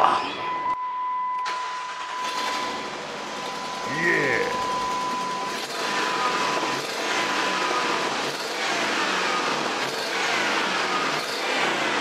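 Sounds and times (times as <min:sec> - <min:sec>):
car engine running: 0:01.6 - 0:12.0.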